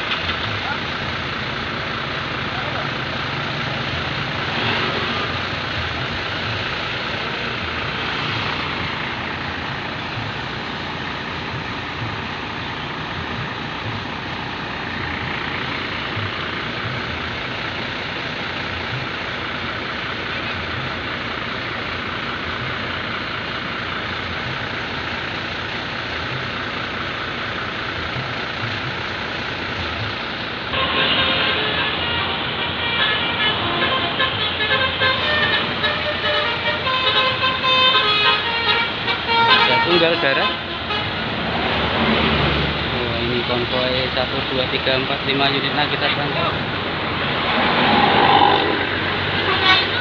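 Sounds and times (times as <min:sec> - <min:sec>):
bus engines running: 0:00.0 - 0:50.0
road traffic rumble: 0:00.0 - 0:50.0.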